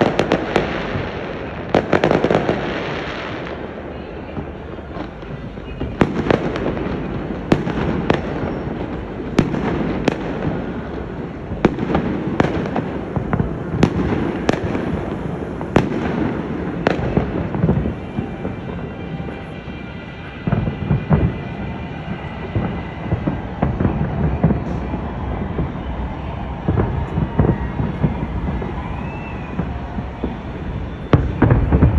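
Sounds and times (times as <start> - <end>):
fireworks bangs: 0.0 - 31.9
fireworks rumble and crackle: 0.0 - 31.9.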